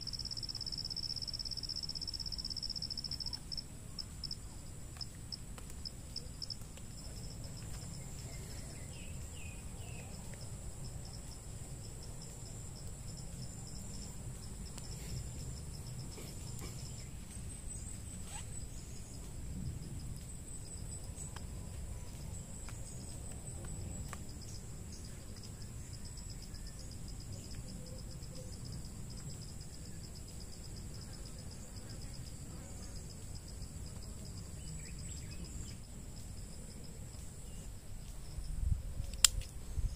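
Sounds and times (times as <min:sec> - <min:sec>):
high continuous insect trill: 0:00.0 - 0:39.9
low pulsing insect trill: 0:00.0 - 0:39.9.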